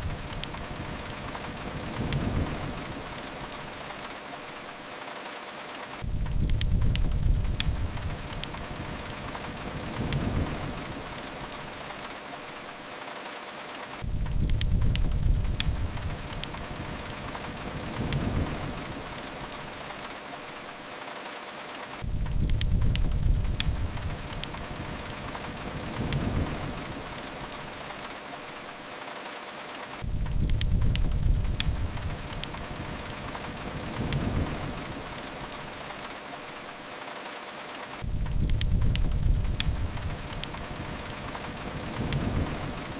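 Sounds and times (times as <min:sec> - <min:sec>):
fireplace crackles: 0:00.0 - 0:42.9
steady rain hiss: 0:00.0 - 0:42.9.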